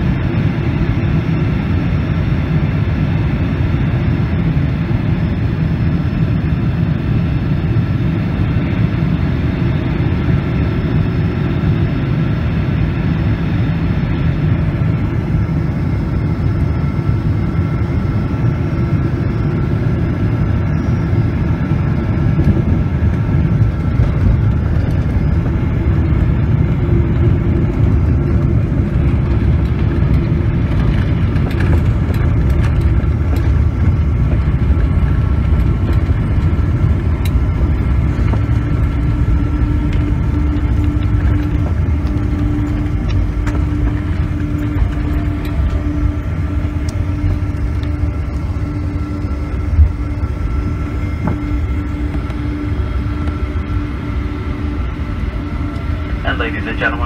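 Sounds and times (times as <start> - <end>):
airplane cabin low rumble: 0.0 - 57.0.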